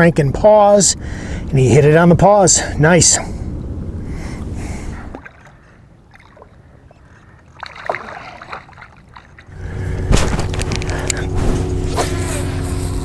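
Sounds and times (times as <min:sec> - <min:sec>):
low steady rumble: 0:00.0 - 0:07.6, 0:08.4 - 0:13.0.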